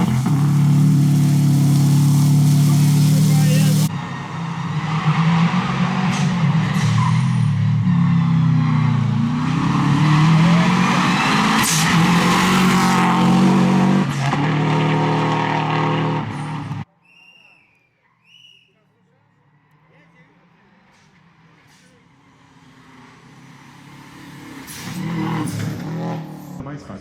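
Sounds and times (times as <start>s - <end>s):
rally car engine revving: 0.0s - 16.8s, 20.7s - 26.6s.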